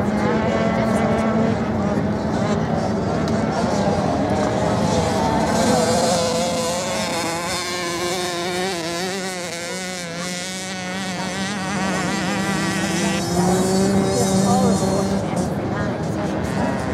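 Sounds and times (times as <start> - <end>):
motocross bike engines buzzing: 0.0 - 16.9.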